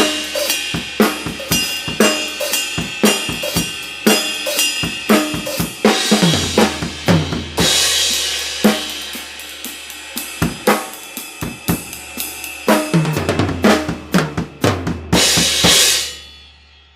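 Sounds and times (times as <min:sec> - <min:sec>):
drum kit groove: 0:00.0 - 0:16.9.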